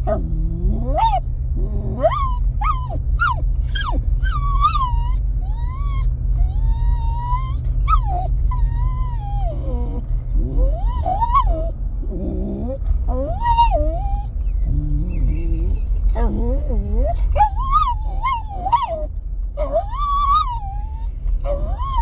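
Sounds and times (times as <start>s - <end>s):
dog whining and yelping: 0.0s - 22.0s
truck low rumble: 0.0s - 22.0s.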